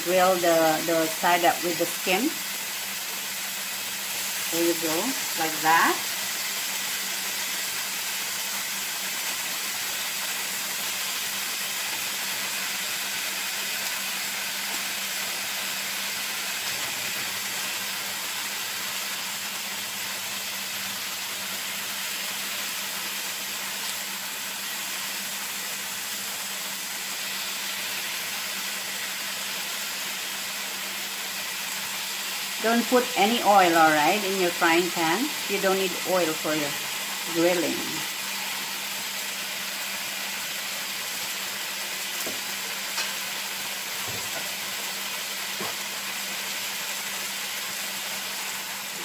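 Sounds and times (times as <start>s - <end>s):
chicken sizzling in a frying pan: 0.0s - 49.0s.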